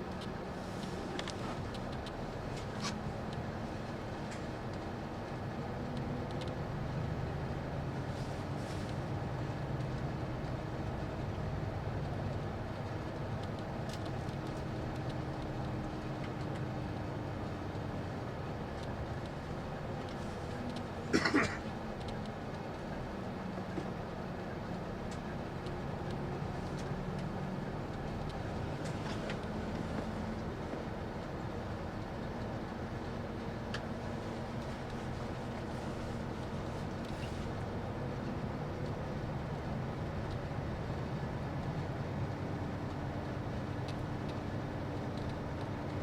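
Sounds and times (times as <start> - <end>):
bus engine drone and road rumble: 0.0 - 46.0.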